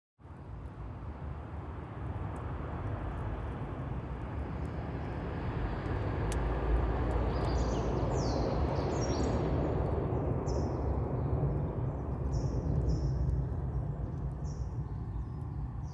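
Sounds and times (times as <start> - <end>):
campfire crackling: 0.6 - 15.9.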